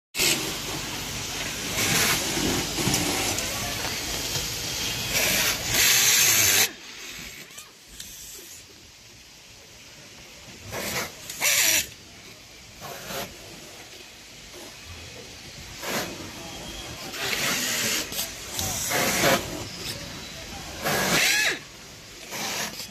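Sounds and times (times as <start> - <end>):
compressed air hiss: 0.2 - 9.8, 10.4 - 22.9
factory background noise: 0.2 - 22.9.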